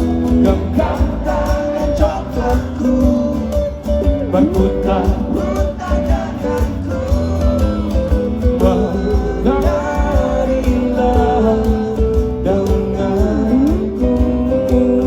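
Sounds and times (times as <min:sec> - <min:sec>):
live band music: 0:00.0 - 0:15.0
person singing: 0:00.0 - 0:15.0.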